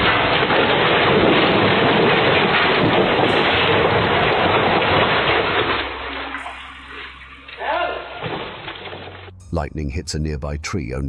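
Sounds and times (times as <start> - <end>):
heavy rain: 0.0 - 9.3.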